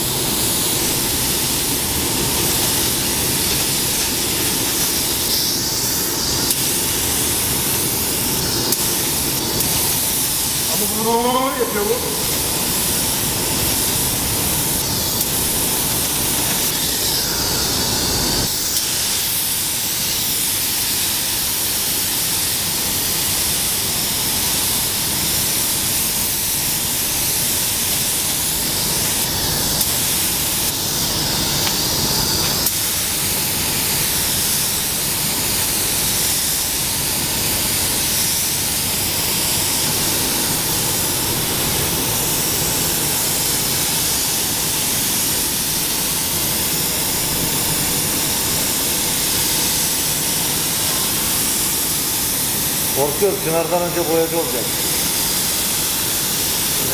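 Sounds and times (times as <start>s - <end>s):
paint spray gun hissing: 0.0s - 56.9s.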